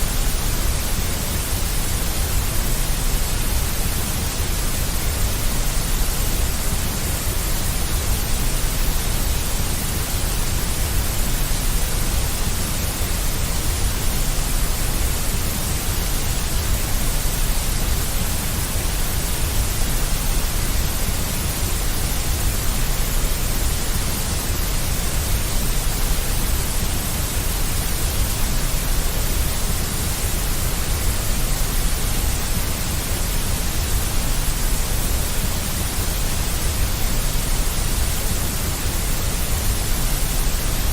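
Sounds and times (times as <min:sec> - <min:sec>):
deep white noise: 0:00.0 - 0:40.9.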